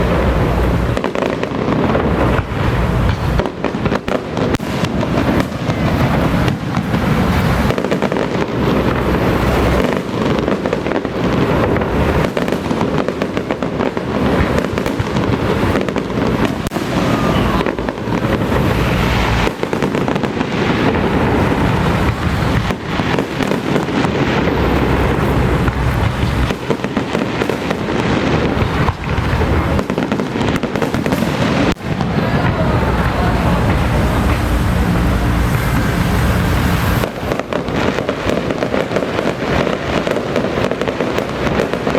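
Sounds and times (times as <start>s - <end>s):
fireworks crackling bangs: 0.0s - 41.9s.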